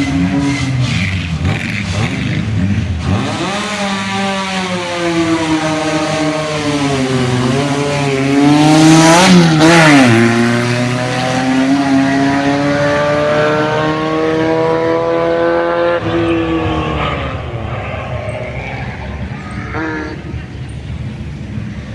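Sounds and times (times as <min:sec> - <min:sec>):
buggy engine revving: 0:00.0 - 0:21.9.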